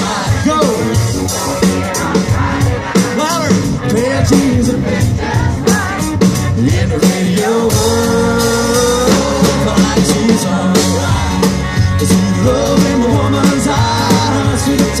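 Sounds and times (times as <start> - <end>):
drums: 0.0 - 15.0
person singing lead vocal: 0.0 - 15.0.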